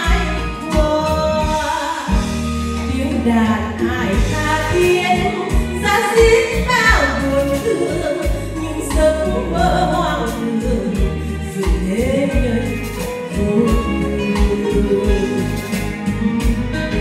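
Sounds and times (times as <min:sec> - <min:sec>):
karaoke backing track: 0:00.0 - 0:17.0
woman singing into a microphone: 0:00.0 - 0:17.0.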